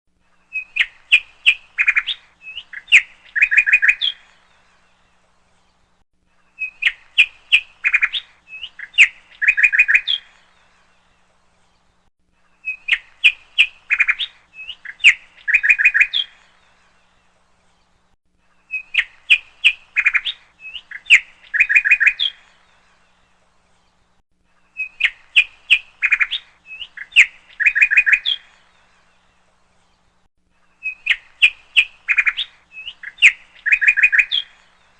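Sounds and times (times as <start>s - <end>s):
bird chirps and trills: 0.3s - 34.9s.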